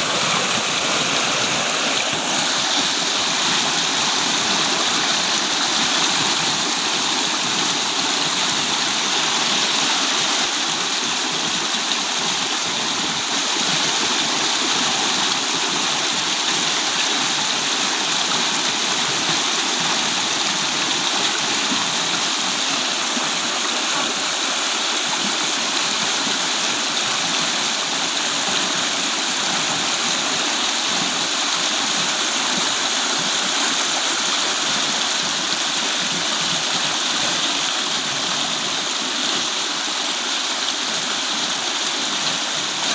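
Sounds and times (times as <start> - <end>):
stream rushing: 0.0 - 42.9.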